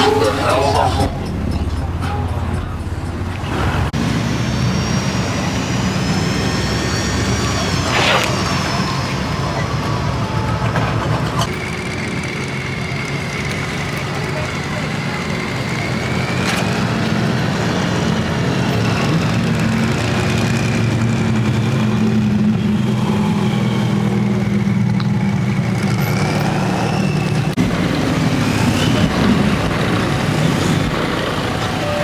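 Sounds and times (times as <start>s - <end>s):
vehicle engine running loudly: 0.0s - 32.0s.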